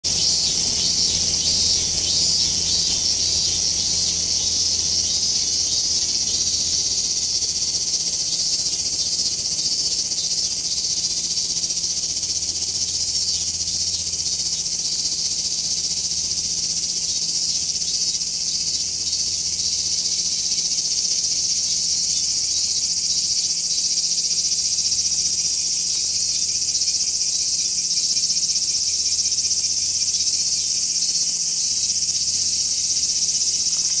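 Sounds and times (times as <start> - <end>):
cicadas singing: 0.0 - 34.0.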